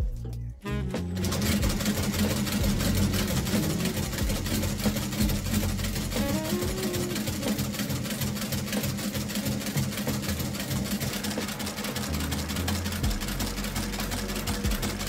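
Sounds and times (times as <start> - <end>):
stitching machine clattering: 1.1 - 15.0.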